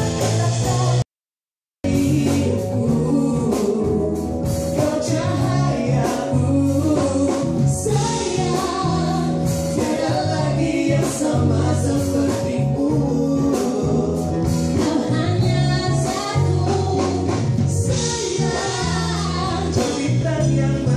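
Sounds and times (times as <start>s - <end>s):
electric guitar band: 0.0s - 1.0s, 1.9s - 20.9s
man and woman singing: 1.8s - 20.9s.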